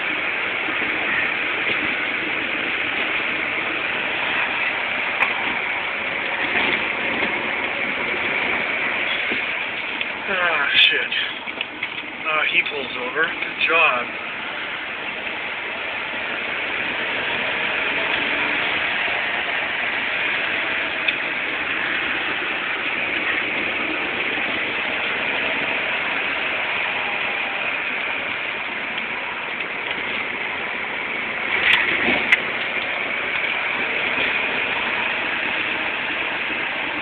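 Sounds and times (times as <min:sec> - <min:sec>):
car engine running: 0:00.0 - 0:37.0
wind and road noise: 0:00.0 - 0:37.0.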